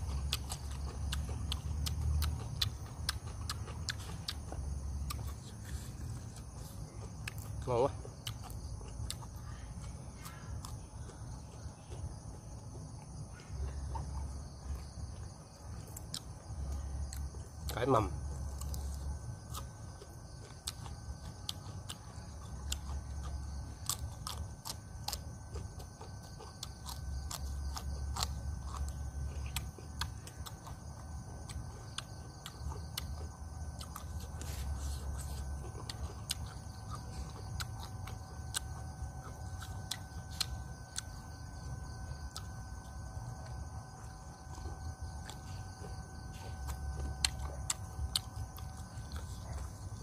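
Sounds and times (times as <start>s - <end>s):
crickets chirring: 0.0s - 50.0s
person chewing food: 0.0s - 50.0s.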